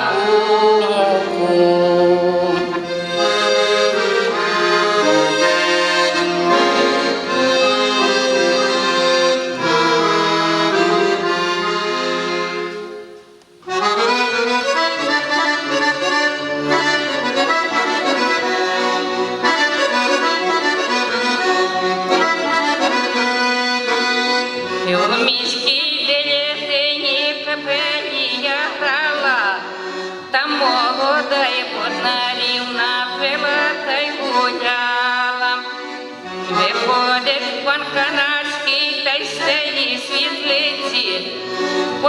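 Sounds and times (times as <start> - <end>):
accordion folk melody: 0.0 - 42.0.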